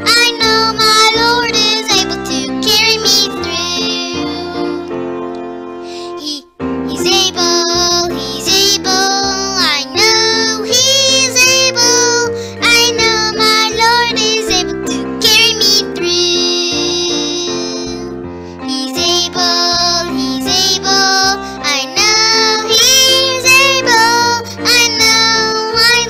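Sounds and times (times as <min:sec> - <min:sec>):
children's worship song: 0:00.0 - 0:26.0.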